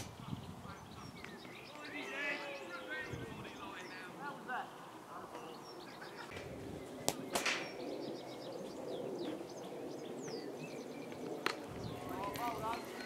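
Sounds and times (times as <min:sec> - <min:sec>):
birds chirping and singing: 0:00.0 - 0:13.0.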